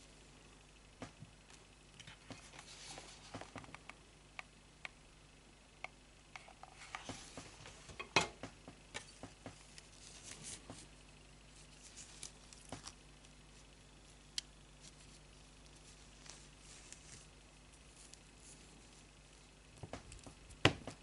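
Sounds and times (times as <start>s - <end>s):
soft rustling and crackling: 1.0s - 4.0s, 6.4s - 21.0s.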